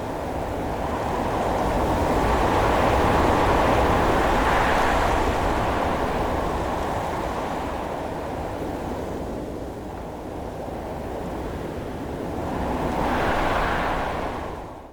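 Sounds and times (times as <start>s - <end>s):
strong wind blowing: 0.0s - 9.0s, 10.8s - 14.9s.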